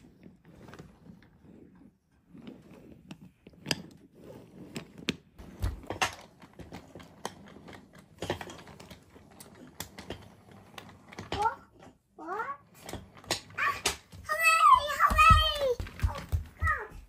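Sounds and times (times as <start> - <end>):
wooden toy train clattering: 0.0 - 17.0.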